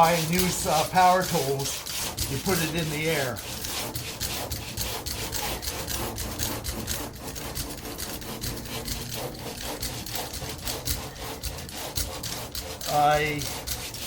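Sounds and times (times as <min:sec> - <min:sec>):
sandpaper scratching by hand: 0:00.0 - 0:14.0.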